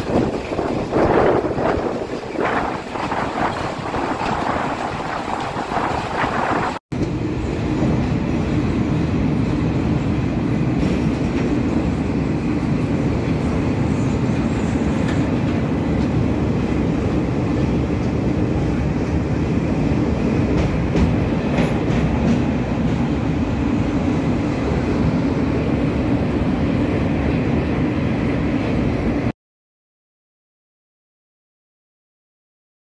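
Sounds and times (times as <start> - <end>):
train wheels rumbling on rails: 0.0 - 29.3.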